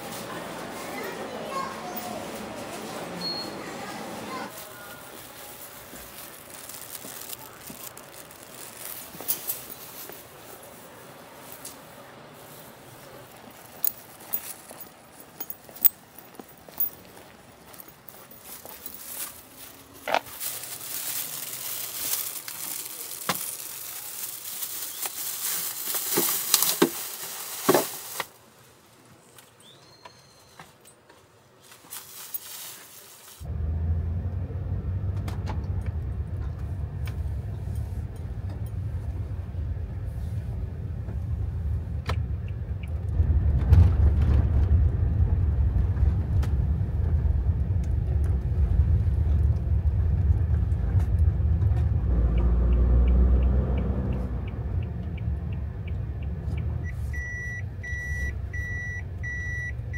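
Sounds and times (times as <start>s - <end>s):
van engine and road noise: 0.0s - 29.0s, 31.8s - 59.9s.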